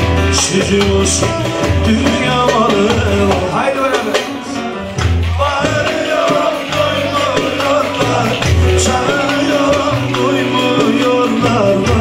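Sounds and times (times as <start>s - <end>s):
person singing: 0.1s - 12.0s.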